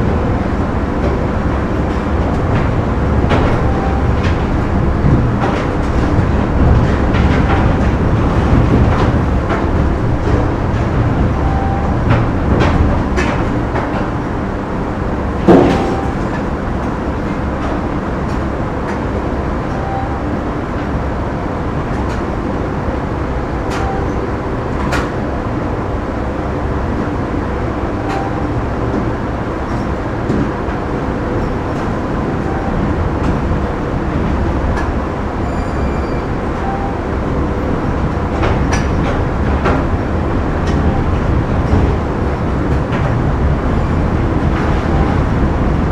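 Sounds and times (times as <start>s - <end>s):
factory machinery rumble: 0.0s - 45.9s.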